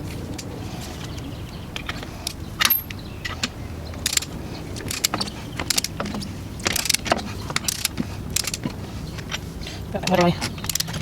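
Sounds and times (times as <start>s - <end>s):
metal tools clinking on lug nuts: 1.8s - 11.0s.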